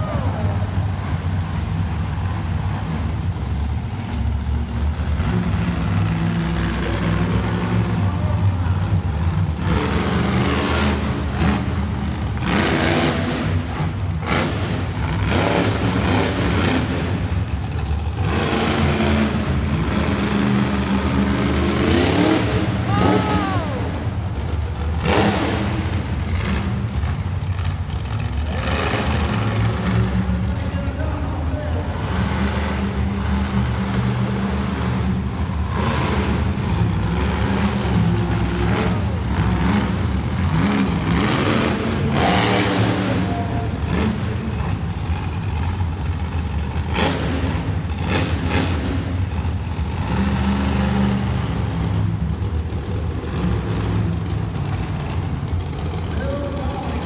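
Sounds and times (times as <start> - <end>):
truck engine revving hard: 0.0 - 57.0.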